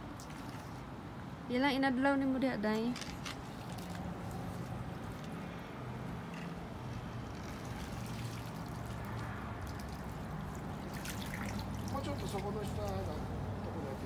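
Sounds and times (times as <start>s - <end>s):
pond water sloshing: 0.0s - 1.2s, 3.1s - 14.0s.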